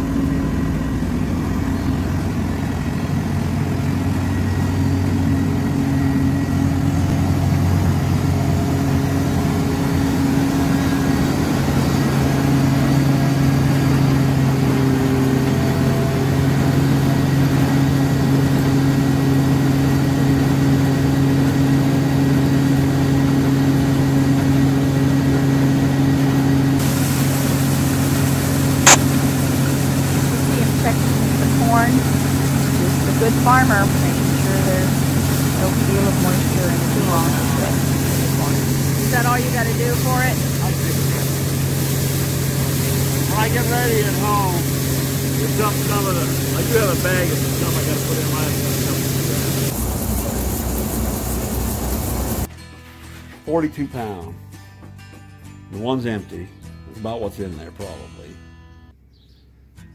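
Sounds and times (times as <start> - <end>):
tractor engine running: 0.0 - 52.5.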